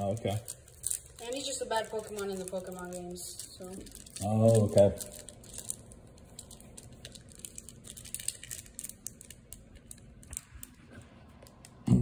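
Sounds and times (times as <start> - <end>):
foil wrapper crinkling: 0.0 - 11.8.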